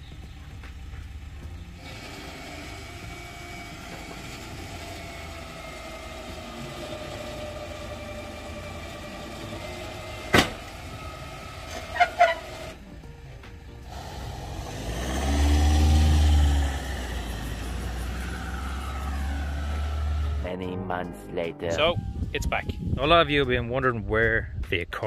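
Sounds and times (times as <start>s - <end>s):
truck engine whine: 0.0s - 20.5s.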